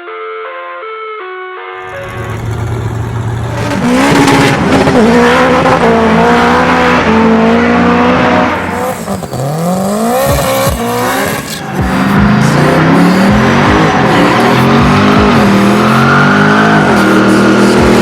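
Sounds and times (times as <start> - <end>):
car engine revving hard: 1.8 - 18.0.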